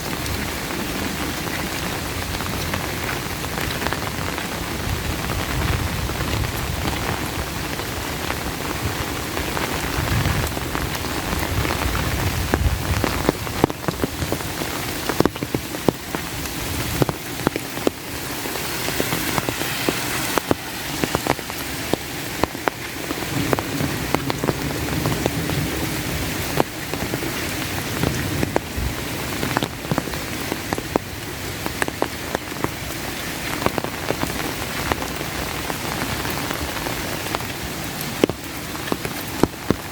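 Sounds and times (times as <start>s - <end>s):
raindrops tapping close by: 0.0s - 39.9s
steady rain falling: 0.0s - 39.9s.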